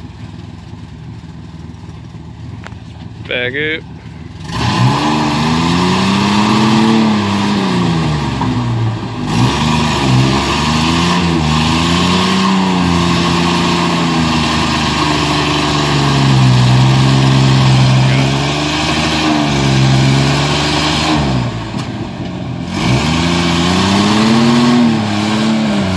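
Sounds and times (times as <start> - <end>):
truck engine revving: 1.2 - 25.9.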